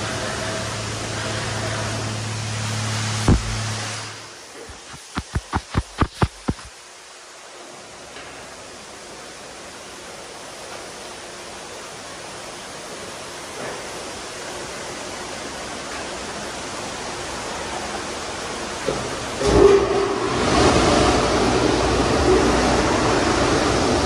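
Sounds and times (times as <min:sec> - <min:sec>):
car wash spraying water: 0:00.0 - 0:24.0.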